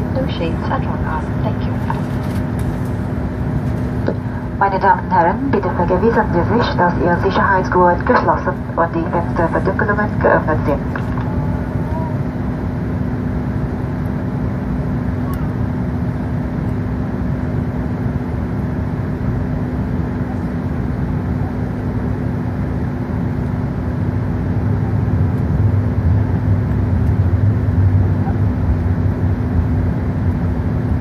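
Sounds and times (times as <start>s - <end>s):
aircraft cabin engine rumble: 0.0s - 31.0s.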